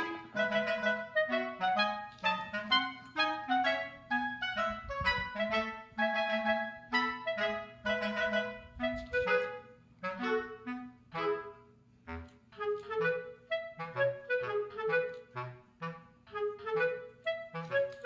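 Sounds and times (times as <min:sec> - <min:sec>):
light bouncy melody: 0:00.0 - 0:18.0.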